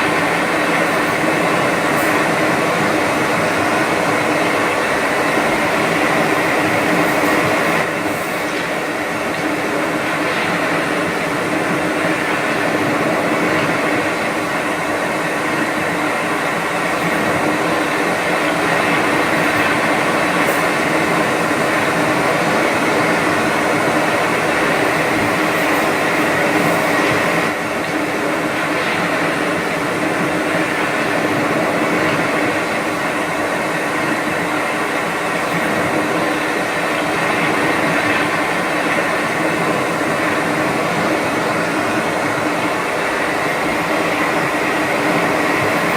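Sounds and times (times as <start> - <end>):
steady rushing hum: 0.0 - 45.9.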